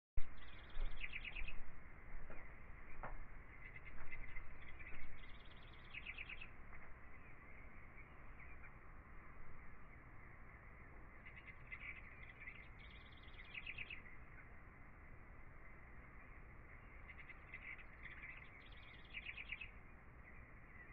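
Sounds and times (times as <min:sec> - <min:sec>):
bird chirping rapidly: 0:00.2 - 0:14.6, 0:15.6 - 0:20.9
steady low hiss: 0:00.2 - 0:20.9.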